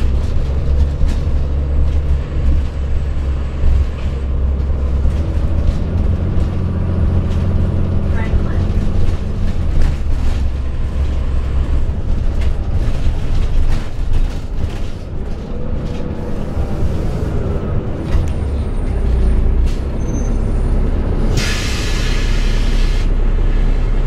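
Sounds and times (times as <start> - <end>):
bus diesel engine drone: 0.0 - 24.0.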